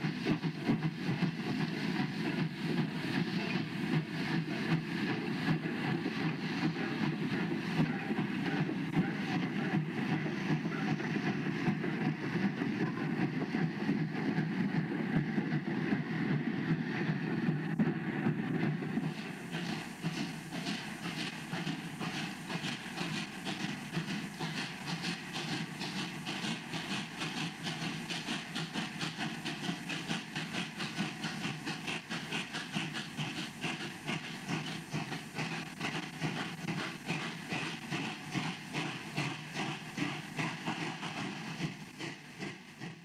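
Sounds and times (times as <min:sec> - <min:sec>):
steam hiss: 0:00.0 - 0:43.0
steam locomotive exhaust chuffing: 0:00.0 - 0:43.0.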